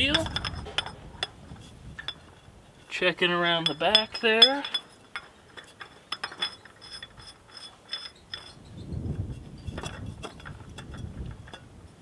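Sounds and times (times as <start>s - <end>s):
light metal clicks and clinks: 0.0s - 11.7s.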